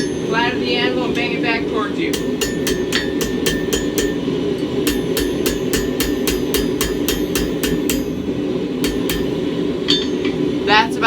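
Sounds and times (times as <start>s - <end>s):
hammer ringing on anvil: 0.0s - 1.4s, 2.1s - 10.7s.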